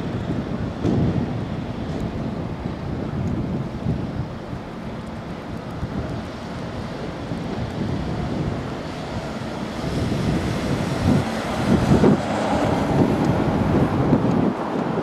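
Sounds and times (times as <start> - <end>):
road traffic noise: 0.0 - 15.0
wind rumbling on microphone: 0.0 - 15.0.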